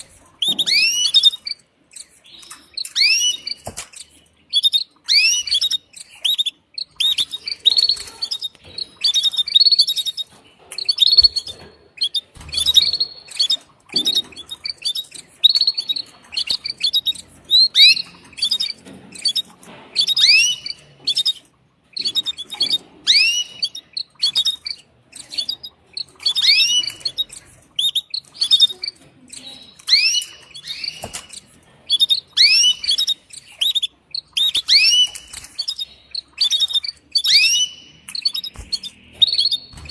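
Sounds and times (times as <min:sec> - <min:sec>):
canary chirping: 0:00.0 - 0:39.9.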